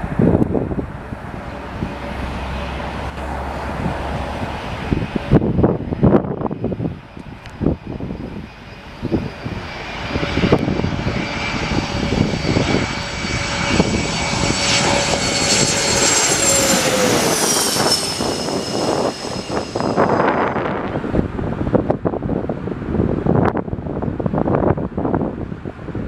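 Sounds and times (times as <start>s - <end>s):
airliner engines whining: 0.0s - 26.0s
wind buffeting microphone: 0.0s - 26.0s.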